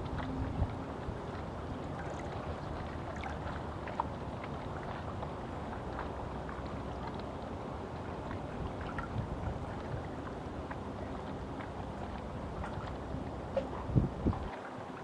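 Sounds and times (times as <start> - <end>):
small water splashes: 0.0 - 15.0
small waves lapping: 0.0 - 15.0
wind: 0.0 - 15.0.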